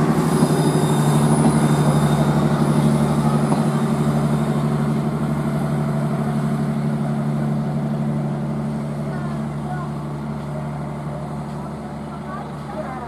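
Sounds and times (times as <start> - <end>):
passenger train rolling past: 0.0 - 13.0.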